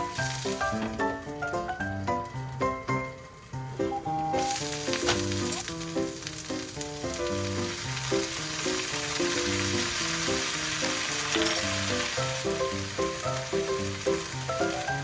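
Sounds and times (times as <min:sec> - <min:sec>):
food sizzling in a pan: 0:00.0 - 0:01.6, 0:02.3 - 0:15.0
background music: 0:00.0 - 0:15.0.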